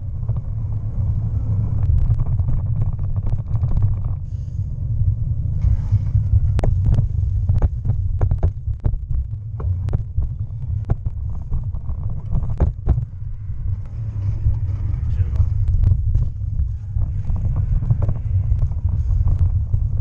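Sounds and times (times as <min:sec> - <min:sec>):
bike knocking and rattling: 0:00.0 - 0:04.5, 0:05.5 - 0:20.0
bicycle rumbling over rough path: 0:00.0 - 0:20.0.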